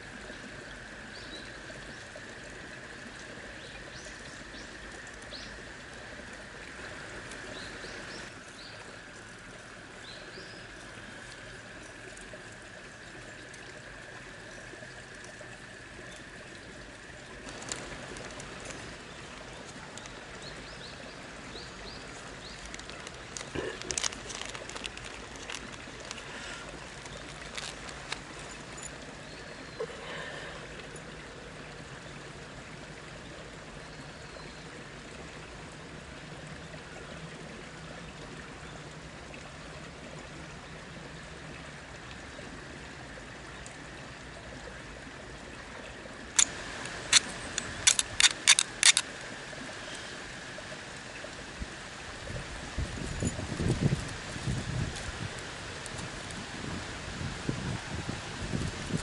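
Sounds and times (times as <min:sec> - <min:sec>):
flowing stream water: 0:00.0 - 0:59.0.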